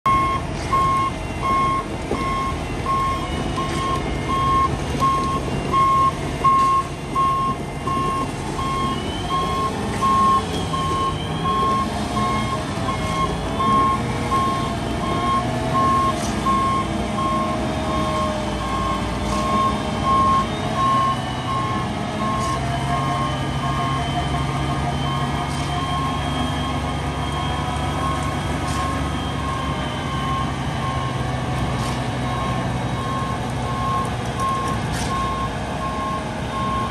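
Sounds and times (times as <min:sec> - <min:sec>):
backup alarm beeps: 0:00.1 - 0:36.9
diesel engine running: 0:00.1 - 0:36.9.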